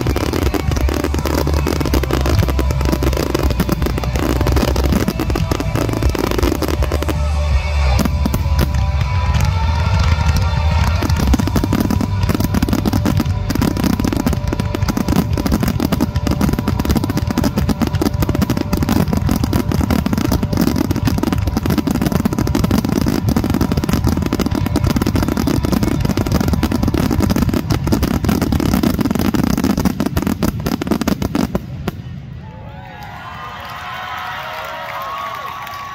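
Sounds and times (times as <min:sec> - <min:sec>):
fireworks bursting: 0:00.0 - 0:32.3.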